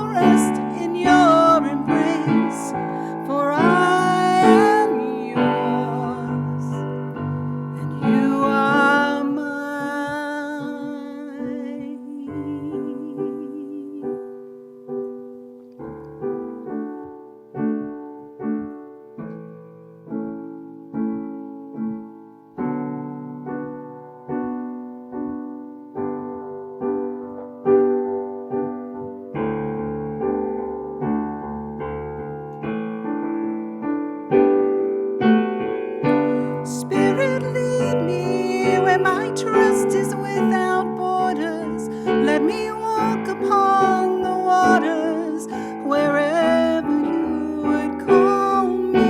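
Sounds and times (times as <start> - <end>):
piano playing slow chords: 0.0 - 49.0.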